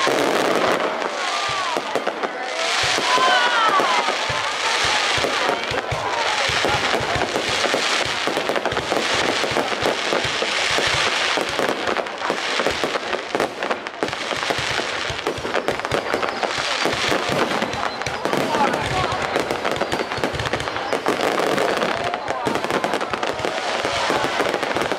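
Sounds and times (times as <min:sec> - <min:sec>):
fireworks bangs and crackles: 0:00.0 - 0:24.9.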